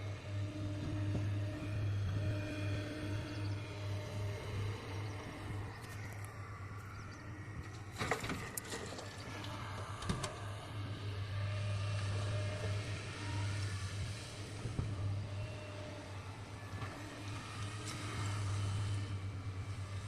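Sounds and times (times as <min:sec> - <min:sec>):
heavy machinery diesel hum: 0:00.0 - 0:20.0.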